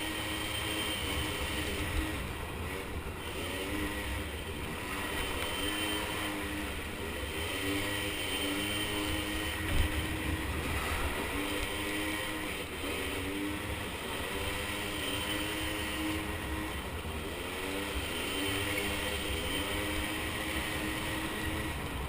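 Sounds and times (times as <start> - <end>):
small engines revving: 0.0 - 22.0.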